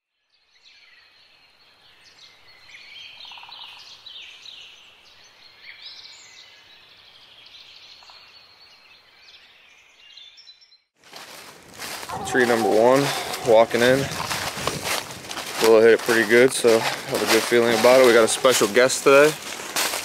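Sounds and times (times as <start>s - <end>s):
songbirds singing and chirping: 0.1s - 10.9s, 11.8s - 20.0s.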